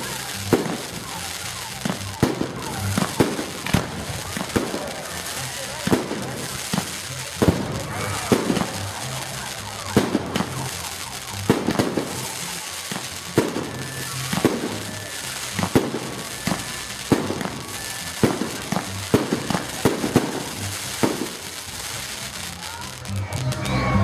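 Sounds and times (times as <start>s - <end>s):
fireworks bursting with sharp bangs: 0.0s - 24.0s
steady background din: 0.0s - 24.0s.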